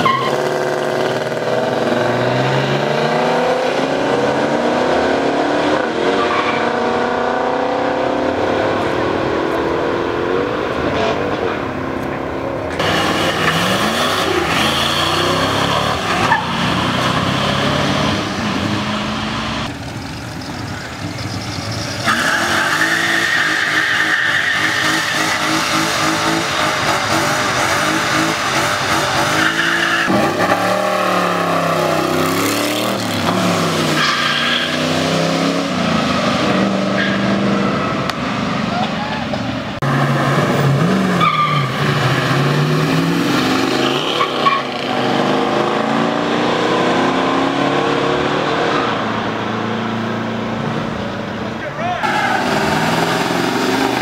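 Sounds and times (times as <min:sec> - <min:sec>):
tires squealing in a burnout: 0:00.0 - 0:07.8, 0:12.8 - 0:39.4, 0:40.0 - 0:49.0, 0:51.8 - 0:54.0
muscle car engines at full throttle: 0:00.0 - 0:54.0.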